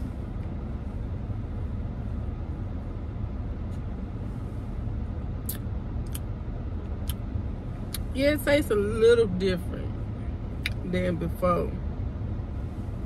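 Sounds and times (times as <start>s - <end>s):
car engine idling: 0.0s - 13.0s
heater fan blowing: 0.0s - 13.0s.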